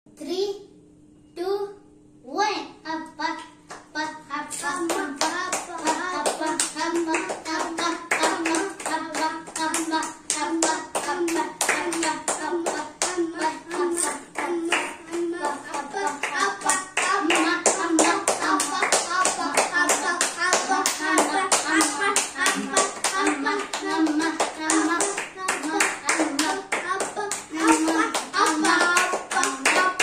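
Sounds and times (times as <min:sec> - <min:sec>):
children chanting: 0:04.0 - 0:30.0
children clapping hands: 0:04.6 - 0:30.0.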